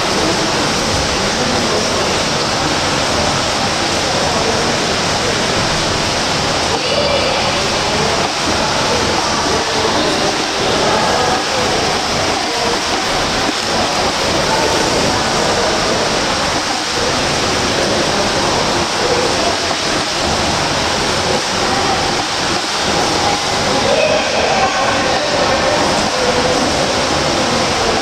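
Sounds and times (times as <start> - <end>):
swimmers splashing in pool: 0.0 - 28.0.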